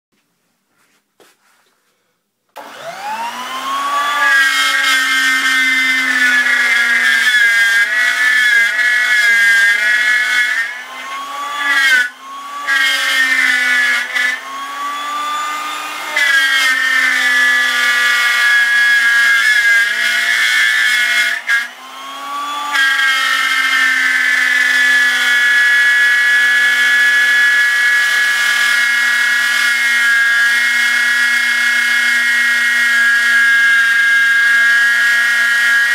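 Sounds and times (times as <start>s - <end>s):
router cutting wood: 2.6s - 35.9s.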